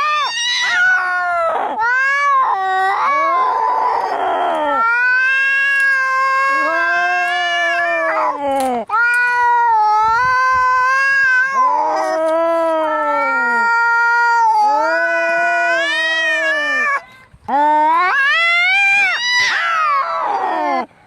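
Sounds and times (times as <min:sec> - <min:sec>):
cats yowling in a fight: 0:00.0 - 0:17.0, 0:17.6 - 0:21.0.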